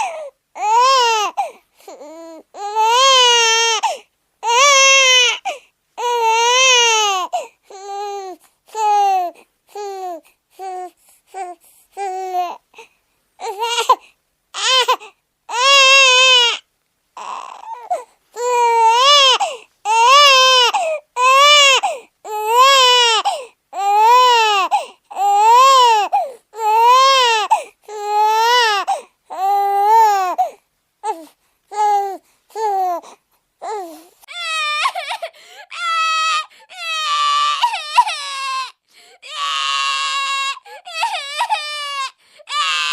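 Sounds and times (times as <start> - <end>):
baby crying: 0.0 - 12.6, 13.4 - 14.0, 14.6 - 16.6, 17.2 - 42.9.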